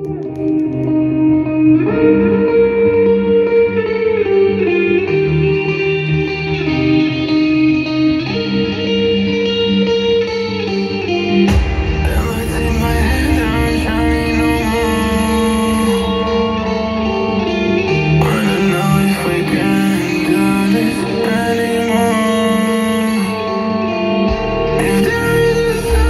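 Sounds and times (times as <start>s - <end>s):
guitar chords over speakers: 0.0s - 26.0s.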